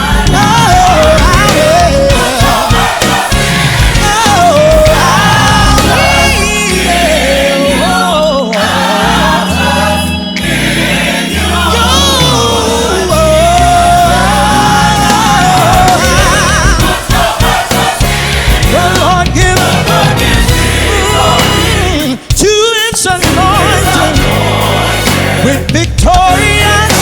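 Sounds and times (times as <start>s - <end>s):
bass line: 0.0s - 27.0s
gospel choir singing: 0.0s - 27.0s
live band playing: 0.0s - 27.0s.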